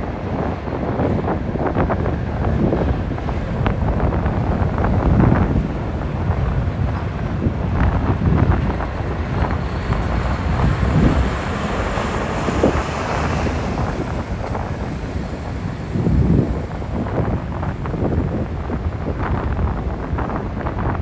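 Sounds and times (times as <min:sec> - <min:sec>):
low rumble of vehicle engines: 0:00.0 - 0:21.0
wind buffeting microphone: 0:00.0 - 0:21.0.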